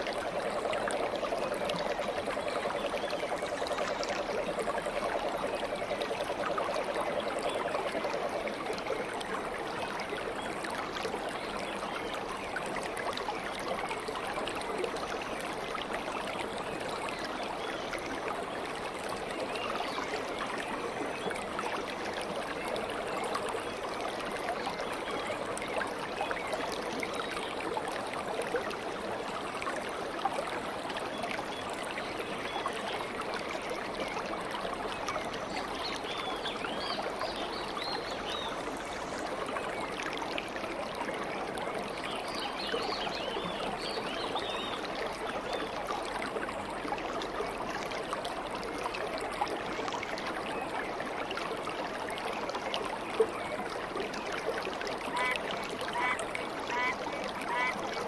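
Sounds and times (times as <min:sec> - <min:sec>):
stream water burbling: 0:00.0 - 0:58.0.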